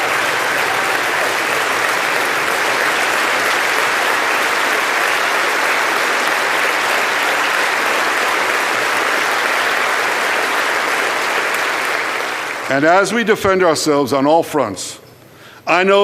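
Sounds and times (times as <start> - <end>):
audience applause: 0.0 - 12.9.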